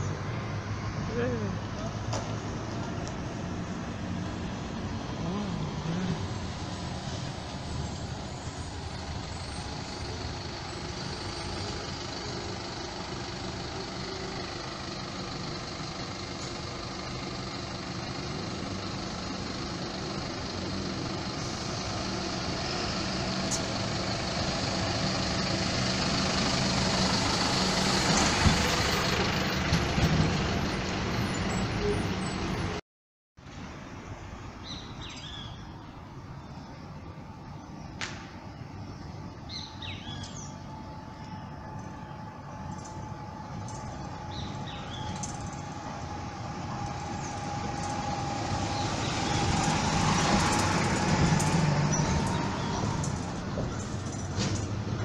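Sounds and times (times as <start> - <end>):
bus diesel engine: 0.0 - 32.8, 33.4 - 55.0
street background: 0.0 - 32.8, 33.4 - 55.0.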